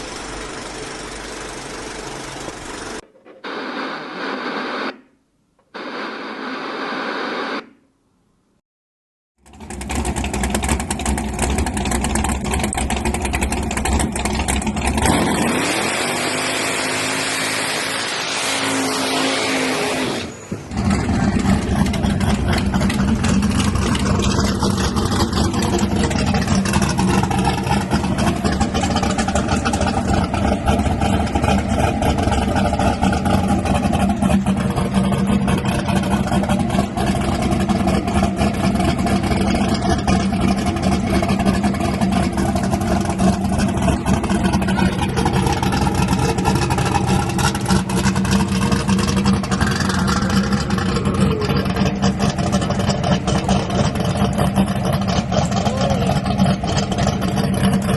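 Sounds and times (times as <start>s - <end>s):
drag race car engine: 0.0s - 4.9s, 9.4s - 57.9s.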